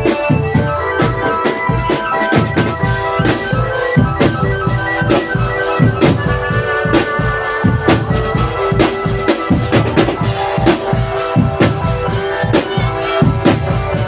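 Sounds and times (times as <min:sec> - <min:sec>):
drums beating: 0:00.0 - 0:14.0
organ-like melody: 0:00.0 - 0:14.0.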